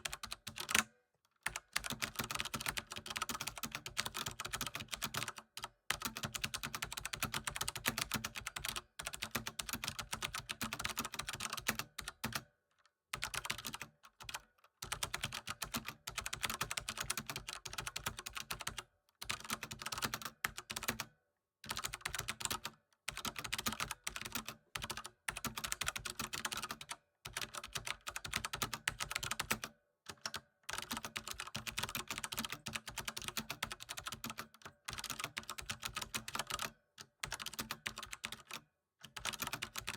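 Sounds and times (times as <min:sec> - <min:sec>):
computer keyboard typing: 0:00.0 - 0:12.5, 0:13.2 - 0:39.9.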